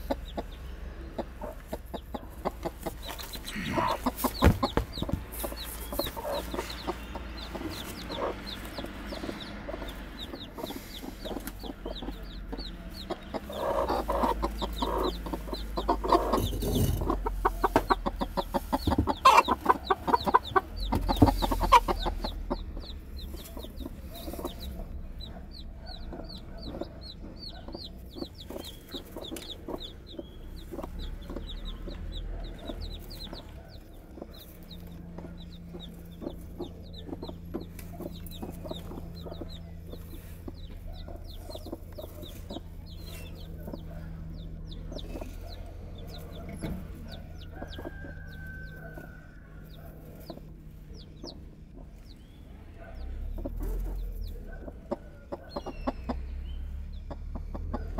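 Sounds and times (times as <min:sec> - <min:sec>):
chicks peeping: 0:00.0 - 0:57.9
hens clucking: 0:00.0 - 0:57.9.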